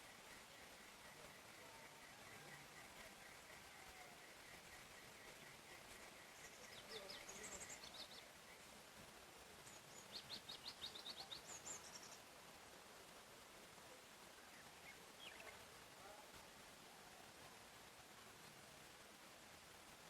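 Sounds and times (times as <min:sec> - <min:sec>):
soft forest hiss: 0:00.0 - 0:20.0
songbirds singing faintly: 0:00.0 - 0:20.0.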